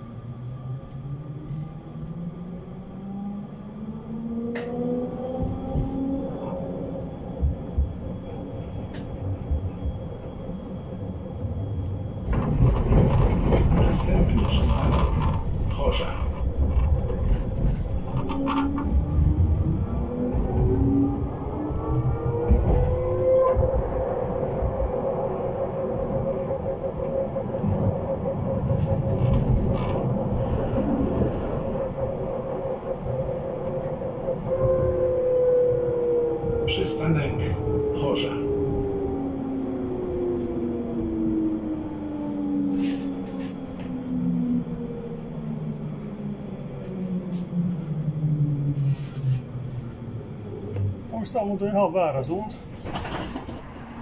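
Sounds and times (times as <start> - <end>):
tram rumbling on rails: 0.0 - 54.0.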